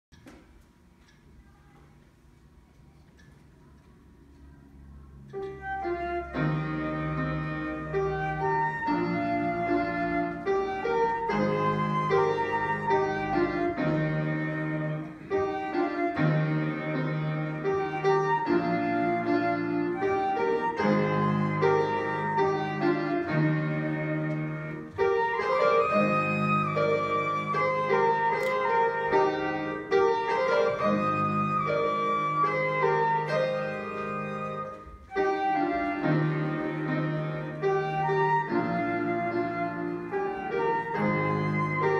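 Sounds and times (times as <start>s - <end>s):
piano chords and bass notes: 4.5s - 41.9s
flute melody: 5.4s - 41.9s.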